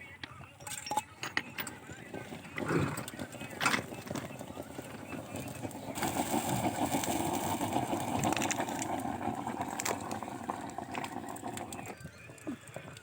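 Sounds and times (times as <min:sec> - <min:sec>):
thermite weld roaring and crackling: 0:02.1 - 0:13.0.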